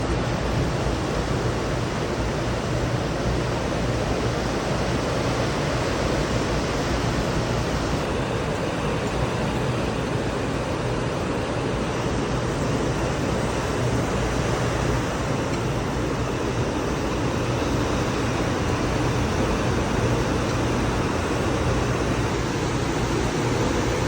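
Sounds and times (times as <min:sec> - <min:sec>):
ocean surf roaring: 0:00.0 - 0:24.0.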